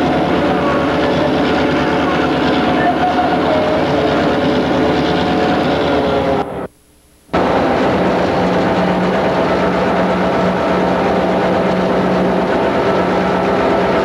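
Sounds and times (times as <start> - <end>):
diesel locomotive engine running: 0.0 - 6.7, 7.3 - 14.0
train rolling on track: 0.0 - 6.7, 7.4 - 14.0.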